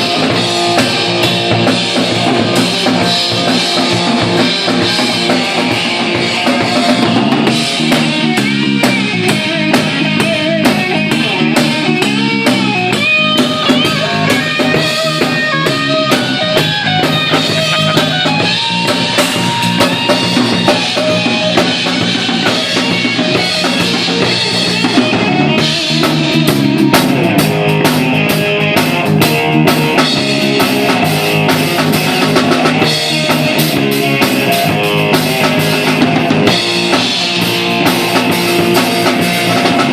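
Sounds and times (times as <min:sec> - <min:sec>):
drums steady beat: 0:00.0 - 0:39.9
rock band playing: 0:00.0 - 0:39.9.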